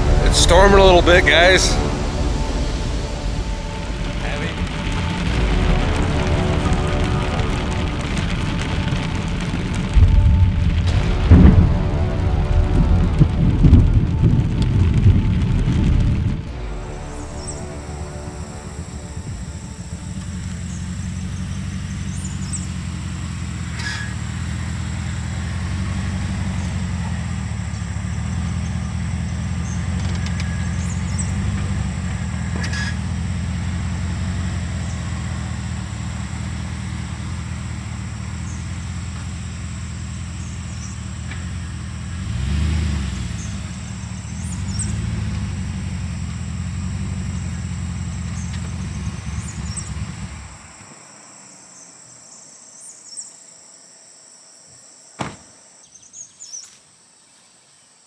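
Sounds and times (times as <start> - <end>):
pickup truck engine running: 0.0 - 50.8.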